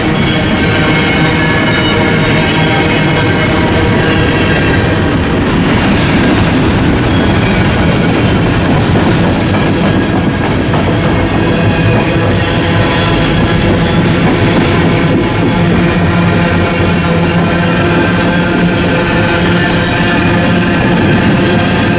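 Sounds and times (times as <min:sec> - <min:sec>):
freight train rumbling past: 0:00.0 - 0:21.9.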